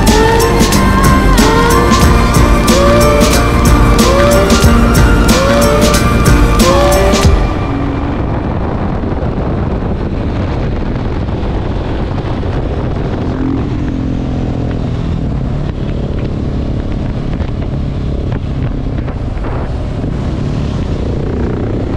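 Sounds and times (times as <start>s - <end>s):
motorcycle engine running at speed: 0.0s - 21.9s
wind noise on microphone: 0.0s - 21.9s.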